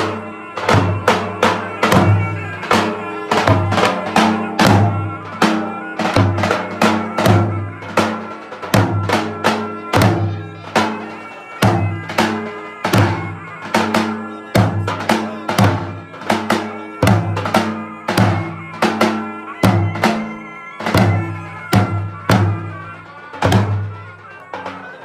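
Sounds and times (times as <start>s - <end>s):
held melody: 0.0s - 25.0s.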